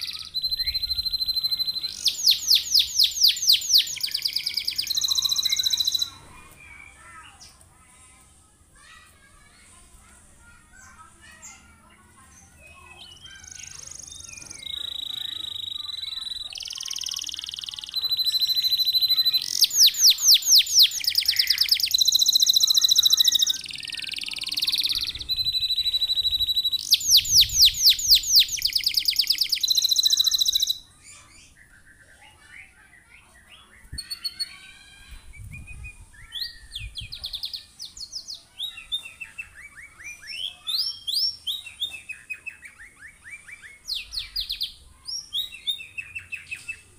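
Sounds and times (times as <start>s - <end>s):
canary singing: 0.0s - 7.6s, 10.8s - 46.9s
soft bird chirps: 0.0s - 7.6s, 10.4s - 46.9s.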